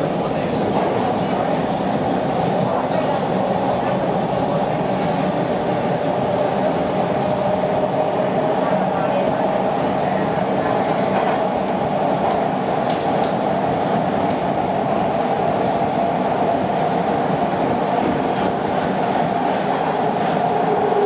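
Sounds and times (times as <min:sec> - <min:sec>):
subway train rumbling on rails: 0:00.0 - 0:21.0.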